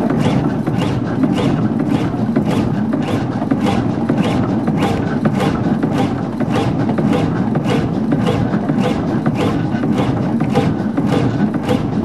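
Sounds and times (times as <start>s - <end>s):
marine engine knocking: 0.0s - 12.0s.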